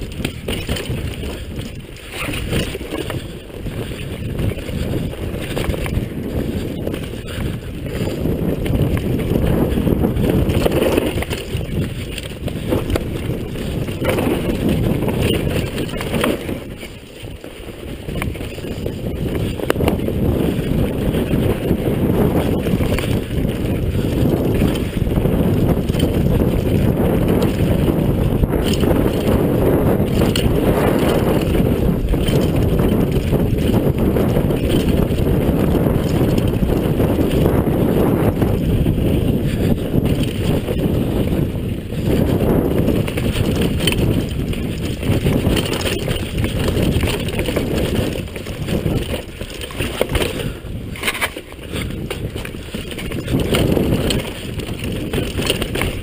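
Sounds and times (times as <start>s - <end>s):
bike rattling over bumps: 0.0s - 56.0s
bike tyre rumble: 0.0s - 56.0s
wind rush on microphone: 0.0s - 56.0s.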